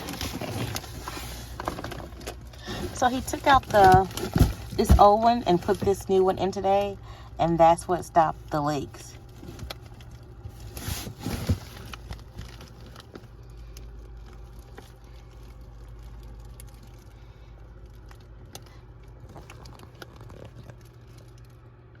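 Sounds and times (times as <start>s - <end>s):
faint crinkling and clicks: 0.0s - 7.3s, 8.4s - 22.0s
steady low hum: 0.0s - 22.0s.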